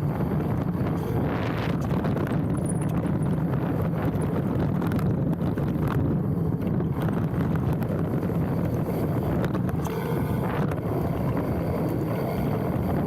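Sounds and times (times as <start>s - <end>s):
bike knocking and rattling: 0.0s - 13.0s
bike tyres rumbling on dirt: 0.0s - 13.0s
wind buffeting microphone: 0.0s - 13.0s.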